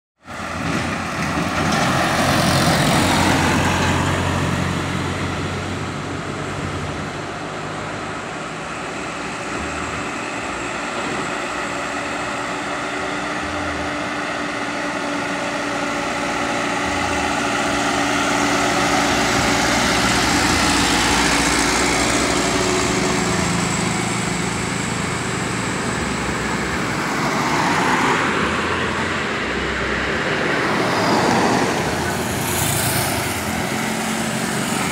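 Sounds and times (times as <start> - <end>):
diesel trucks passing: 0.2 - 34.9.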